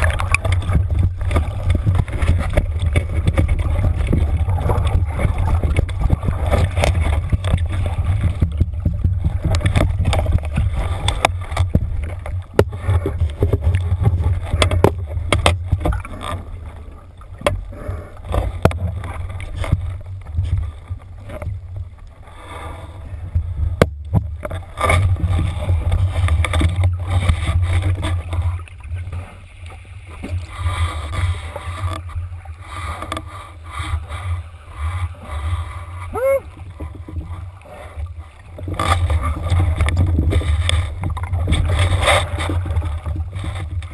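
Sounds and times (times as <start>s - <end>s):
underwater knocks and clicks: 0.0s - 22.2s, 23.2s - 35.4s, 36.5s - 43.9s
underwater churning water rumble: 0.0s - 43.9s.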